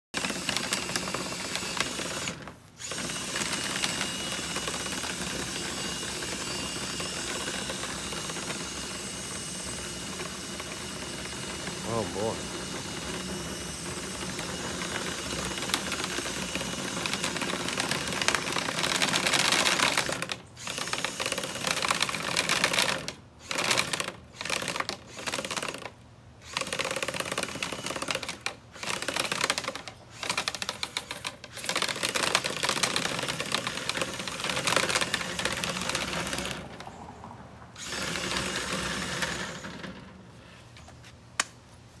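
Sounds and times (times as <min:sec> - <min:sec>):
drill spinning brush in duct: 0:00.1 - 0:37.0, 0:37.8 - 0:40.6.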